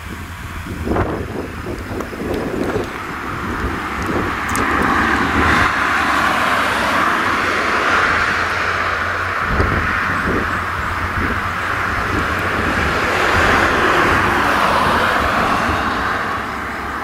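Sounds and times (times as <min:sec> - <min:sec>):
distant tractor engine drone: 0:00.0 - 0:17.0
rushing noise: 0:00.0 - 0:17.0.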